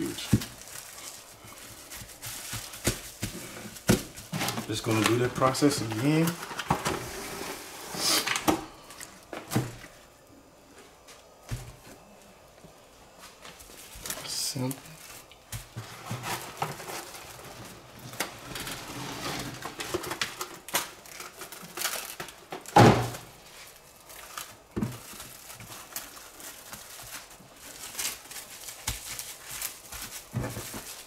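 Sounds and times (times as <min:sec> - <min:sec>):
cling wrap crinkling: 0:00.0 - 0:07.3, 0:13.1 - 0:31.0.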